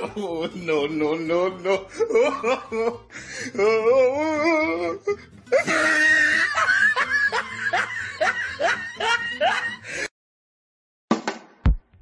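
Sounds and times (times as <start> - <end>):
person laughing: 0.0 - 10.1.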